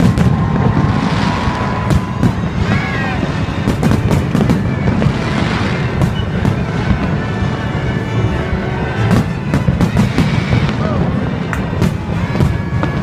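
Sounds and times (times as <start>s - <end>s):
sharp firework cracks: 0.0s - 7.3s, 9.0s - 13.0s
fireworks booming and crackling: 0.0s - 13.0s
music: 0.0s - 13.0s.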